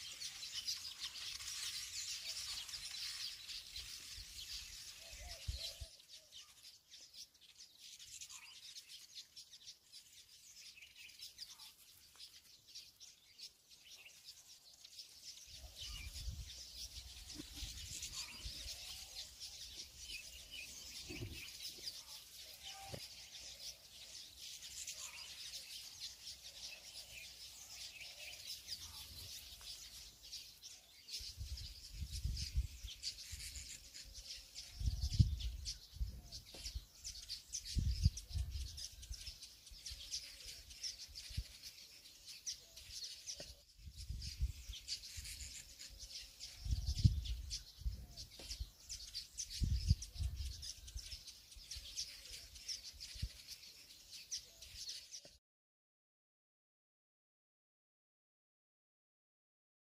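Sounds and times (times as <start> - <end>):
small birds chirping: 0.0 - 55.4.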